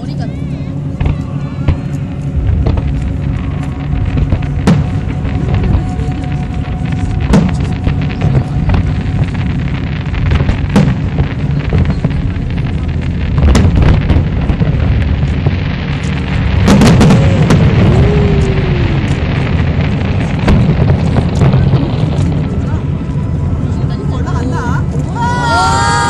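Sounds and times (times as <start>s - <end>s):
fireworks bangs and crackles: 0.0s - 26.0s
low rumble: 0.0s - 26.0s.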